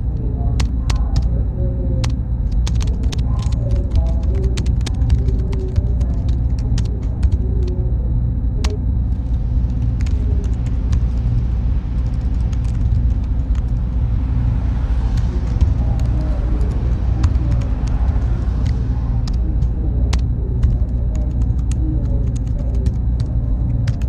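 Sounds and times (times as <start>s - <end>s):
hum of machinery and cooling fans: 0.0s - 24.0s.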